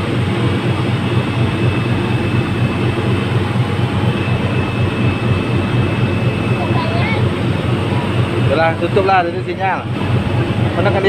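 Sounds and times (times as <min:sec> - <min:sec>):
faint steady whine: 0:00.0 - 0:11.0
ferry engines droning: 0:00.0 - 0:11.0.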